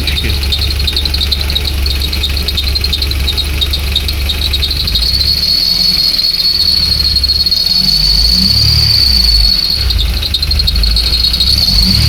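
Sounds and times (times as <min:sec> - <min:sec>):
car engine running: 0:00.0 - 0:12.0
high-pitched engine whistle: 0:00.0 - 0:12.0.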